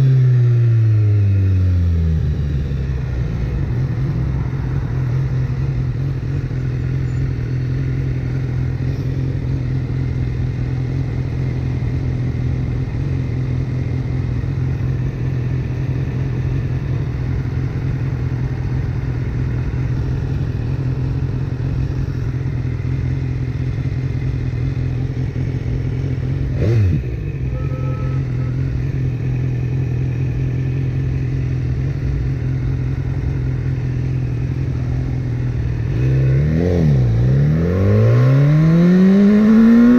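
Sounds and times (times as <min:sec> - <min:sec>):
motorcycle engine idling: 0:00.0 - 0:37.6.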